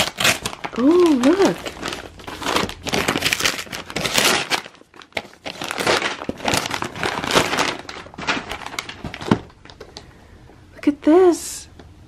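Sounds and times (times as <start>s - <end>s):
paper mailer crinkling and rustling: 0.0s - 10.1s.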